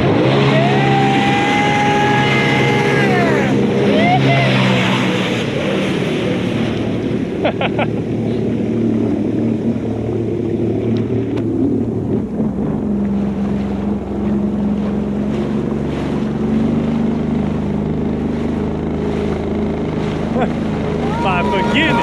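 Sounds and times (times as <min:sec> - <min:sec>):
jet ski engine running: 0:00.0 - 0:22.0.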